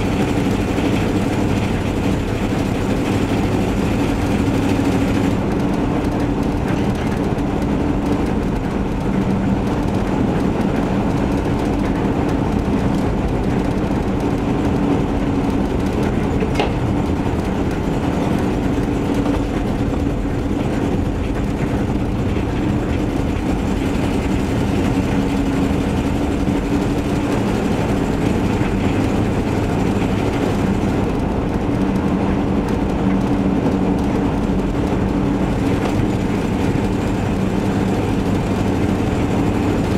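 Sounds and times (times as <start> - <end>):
van engine droning: 0.0 - 39.9.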